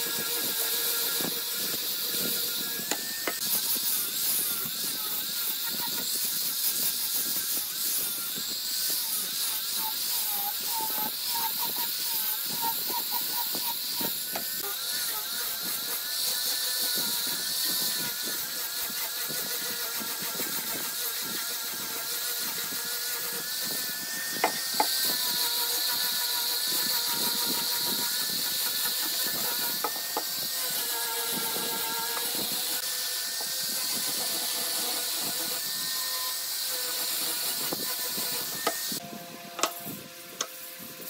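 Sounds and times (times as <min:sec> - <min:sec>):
abrasive hissing on wood: 0:00.0 - 0:32.9
angle grinder whining: 0:00.0 - 0:41.0.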